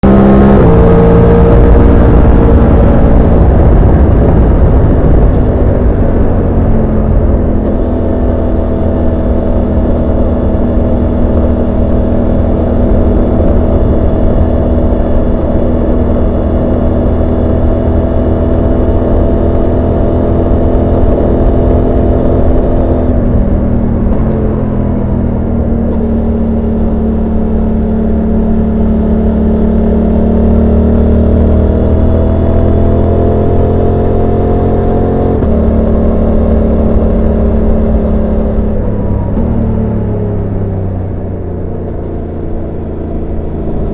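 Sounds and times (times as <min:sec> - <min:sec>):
motorcycle engine and exhaust: 0:00.0 - 0:43.9.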